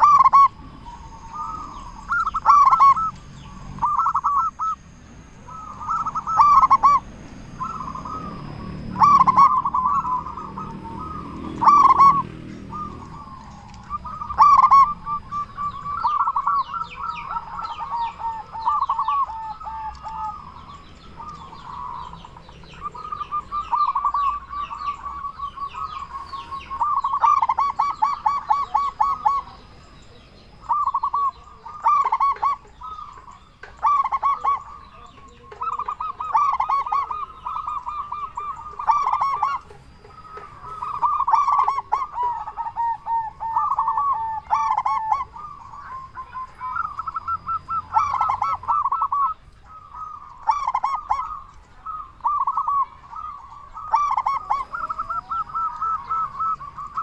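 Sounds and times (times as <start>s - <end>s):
doves cooing: 0.0s - 57.0s
faint high chirps: 0.0s - 57.0s.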